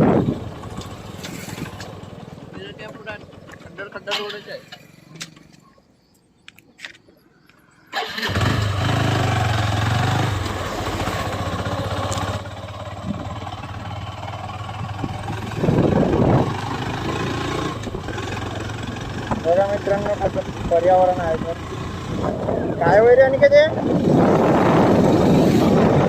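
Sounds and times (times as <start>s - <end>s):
motorcycle engine running: 0.0s - 4.0s, 8.1s - 26.0s.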